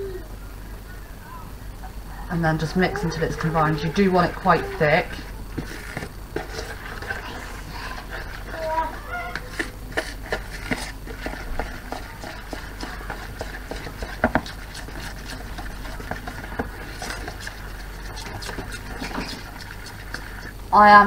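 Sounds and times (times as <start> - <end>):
spoon stirring in plastic bowl: 2.4 - 20.6.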